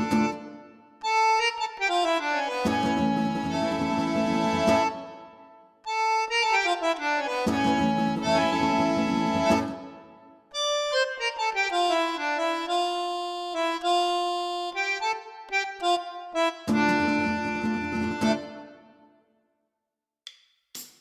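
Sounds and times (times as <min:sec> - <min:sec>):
accordion music: 0:00.0 - 0:19.2.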